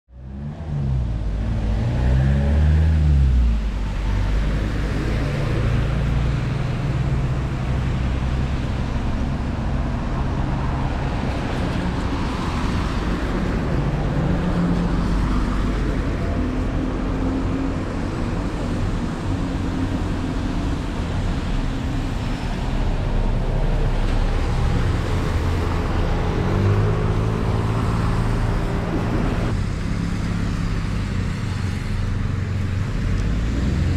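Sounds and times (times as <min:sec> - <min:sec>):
traffic engines running: 0:00.1 - 0:33.9
vehicle accelerating: 0:00.1 - 0:33.9.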